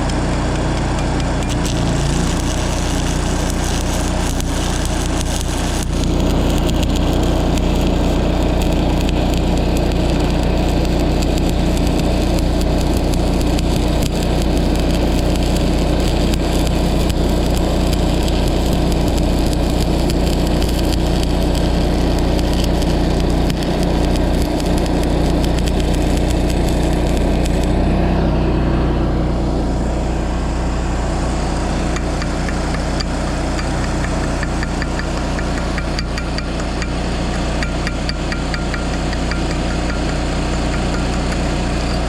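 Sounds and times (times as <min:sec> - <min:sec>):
welding arc crackling: 0:00.0 - 0:28.0, 0:31.2 - 0:42.0
welding machine engine running: 0:00.0 - 0:28.0, 0:29.3 - 0:42.0.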